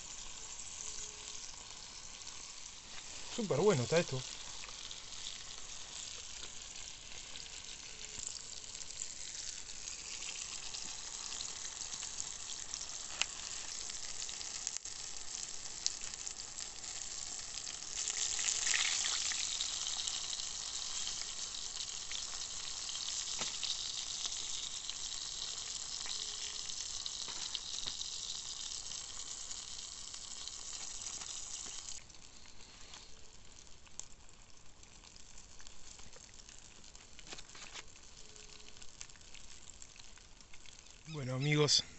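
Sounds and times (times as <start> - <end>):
fish sizzling in hot oil: 0.0 - 41.8.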